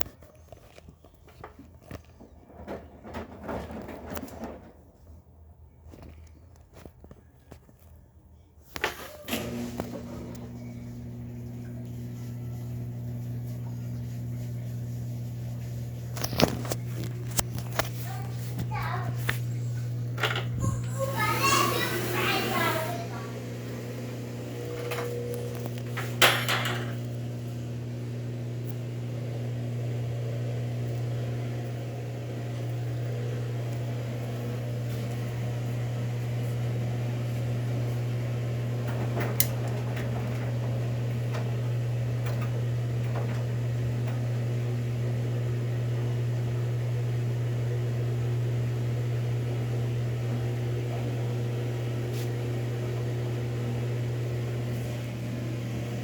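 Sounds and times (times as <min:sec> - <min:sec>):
washing machine humming: 0:01.8 - 0:05.5, 0:08.8 - 0:56.0.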